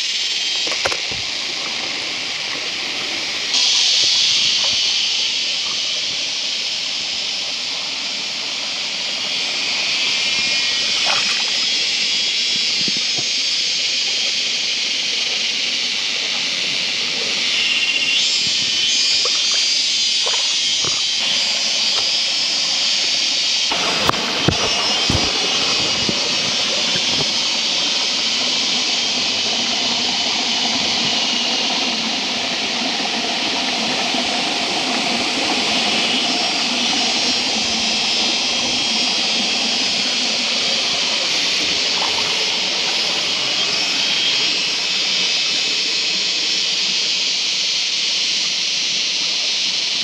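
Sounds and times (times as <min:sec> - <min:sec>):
stream water rushing: 0:00.0 - 0:49.0.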